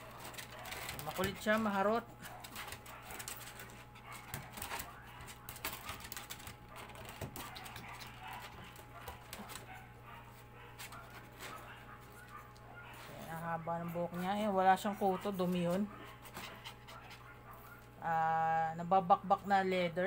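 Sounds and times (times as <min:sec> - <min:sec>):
small rustles and scrapes: 0:00.0 - 0:18.0.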